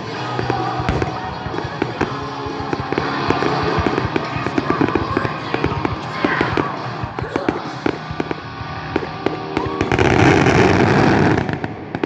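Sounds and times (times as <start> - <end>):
music playing: 0.0 - 12.0
fireworks popping and banging: 0.4 - 12.0.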